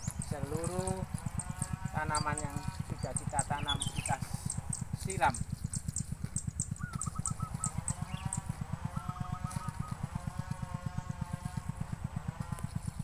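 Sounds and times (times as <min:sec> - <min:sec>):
bird trilling: 0:00.0 - 0:11.0
motor vehicle drone: 0:00.0 - 0:13.0
small engine thudding: 0:00.0 - 0:13.0.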